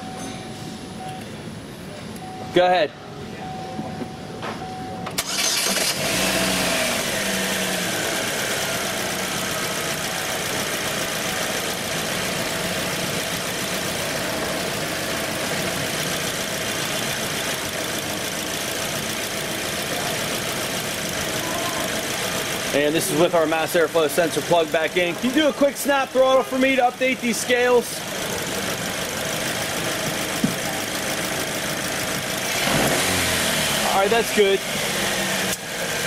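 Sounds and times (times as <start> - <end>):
car engine starting and idling: 4.6 - 36.0.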